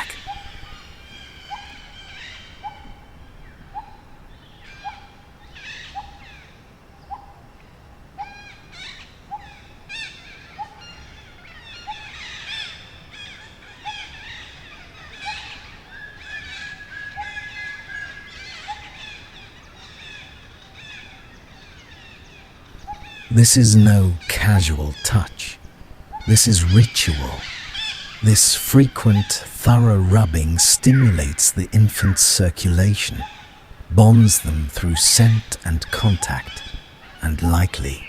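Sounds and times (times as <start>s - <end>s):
birds chirping and trilling: 0.0s - 38.0s.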